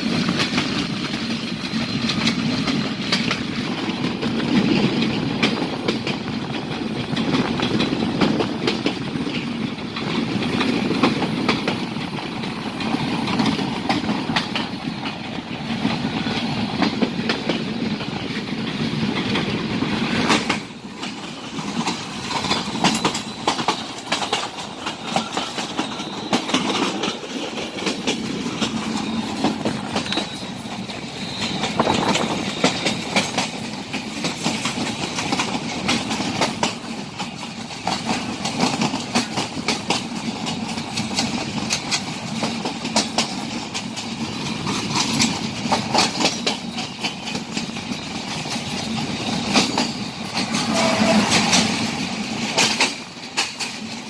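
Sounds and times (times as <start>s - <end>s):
diesel locomotive passing: 0.0s - 54.0s
train wheels clattering over rails: 0.0s - 54.0s.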